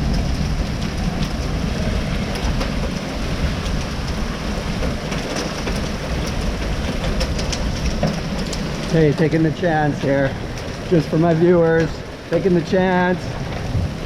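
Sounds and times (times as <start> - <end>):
hailstones striking hard surfaces: 0.0 - 14.0
heavy rain and hail: 0.0 - 14.0.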